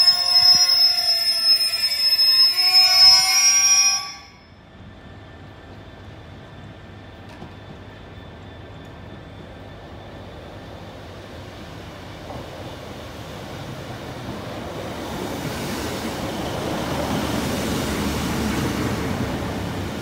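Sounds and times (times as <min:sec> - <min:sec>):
diesel train engine and wheels: 0:00.0 - 0:20.0.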